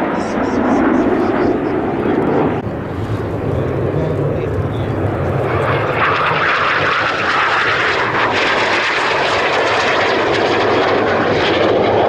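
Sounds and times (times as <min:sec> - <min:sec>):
jet aircraft flying by: 0:00.0 - 0:12.0.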